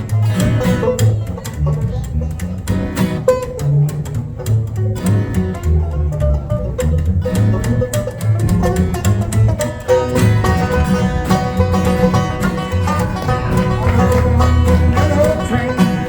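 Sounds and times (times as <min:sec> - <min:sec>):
bluegrass string band playing: 0:00.0 - 0:16.0.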